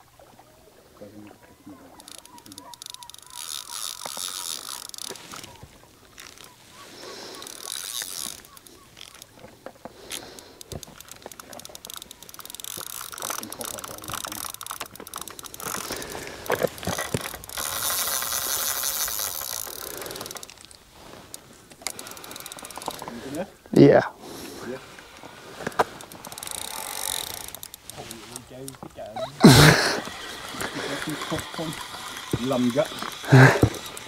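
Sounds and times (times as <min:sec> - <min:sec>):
fishing reel ratchet clicking: 0:01.9 - 0:23.5, 0:25.0 - 0:34.0.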